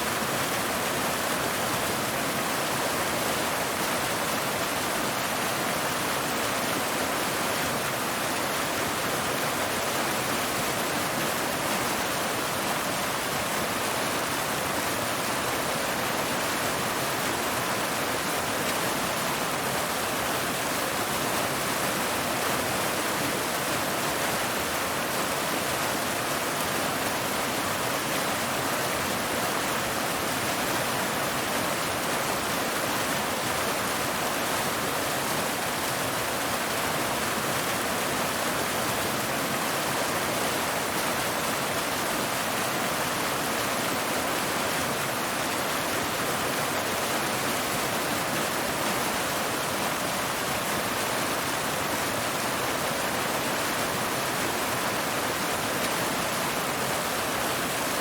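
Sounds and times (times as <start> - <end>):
waterfall pouring over rocks: 0.0 - 58.0.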